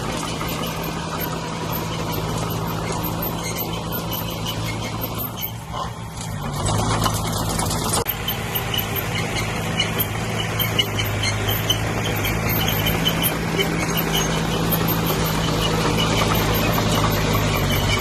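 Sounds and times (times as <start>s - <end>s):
diesel engine of earthmoving machine: 0.0s - 18.0s.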